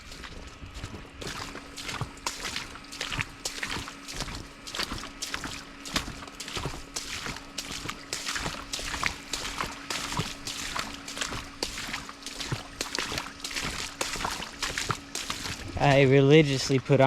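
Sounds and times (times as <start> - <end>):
footsteps splashing through water: 0.0 - 17.0.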